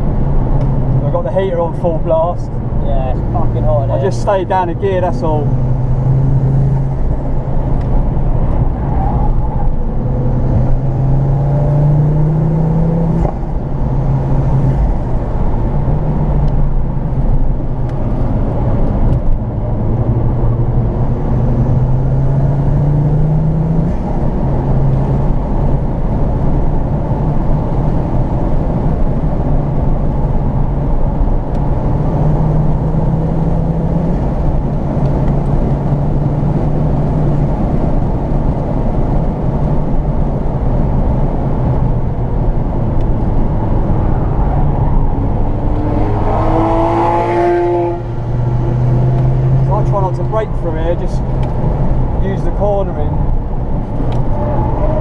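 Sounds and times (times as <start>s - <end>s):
road and wind noise: 0.0s - 55.0s
car engine accelerating through gears: 2.0s - 52.5s, 53.1s - 55.0s.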